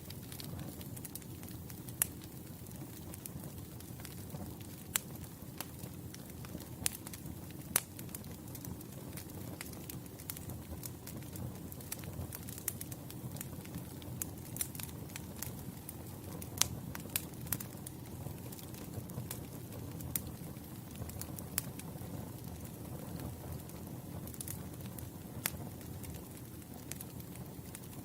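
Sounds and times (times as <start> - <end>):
burning wood crackling and popping: 0.0 - 28.0
campfire flames rushing: 0.0 - 28.0.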